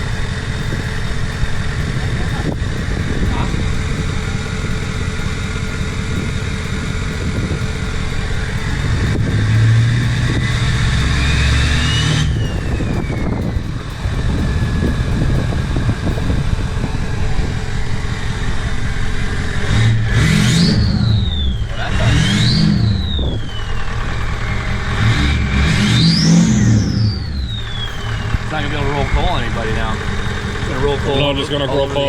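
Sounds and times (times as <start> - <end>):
diesel truck engine revving: 0.0 - 32.0
whistle rising with revs: 0.0 - 32.0.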